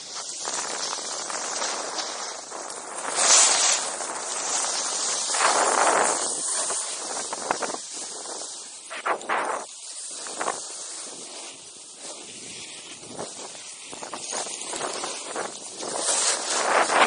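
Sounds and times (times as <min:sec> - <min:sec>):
snowboard scraping over snow: 0:00.0 - 0:17.0.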